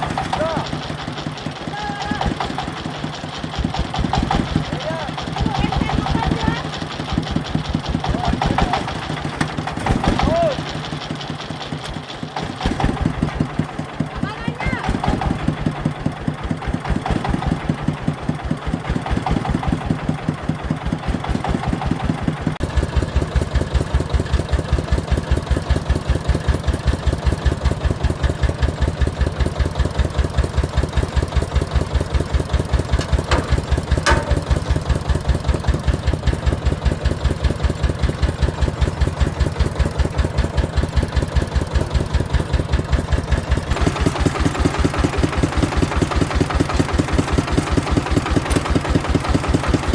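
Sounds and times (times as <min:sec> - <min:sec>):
farm vehicle engine chugging: 0:00.0 - 0:49.9.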